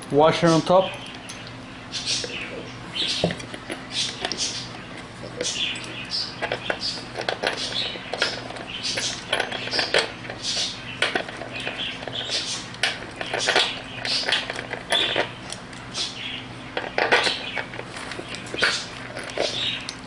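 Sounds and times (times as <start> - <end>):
steady low hum: 0.0 - 20.0
metal parts clicking and scraping: 0.9 - 20.0.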